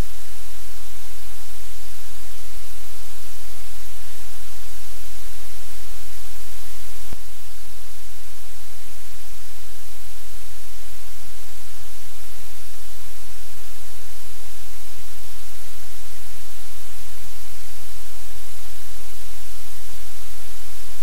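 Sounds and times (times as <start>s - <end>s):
low electrical hum: 0.0s - 21.0s
static hiss: 0.0s - 21.0s.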